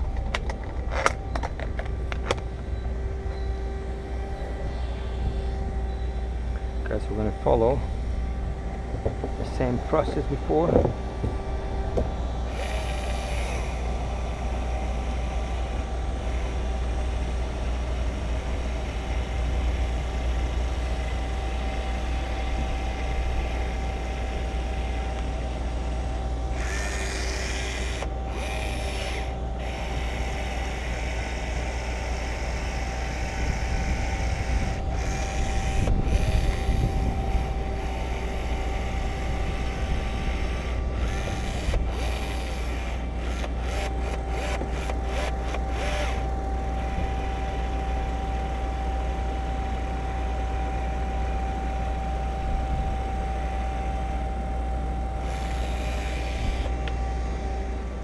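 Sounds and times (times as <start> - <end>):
faint constant tone: 0.0 - 58.0
low mechanical hum: 0.0 - 58.0.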